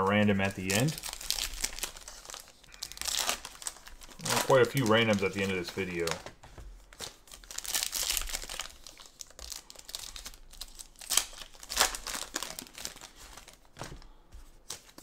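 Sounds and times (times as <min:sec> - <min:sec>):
foil wrapper crinkling and tearing: 0:00.4 - 0:13.8.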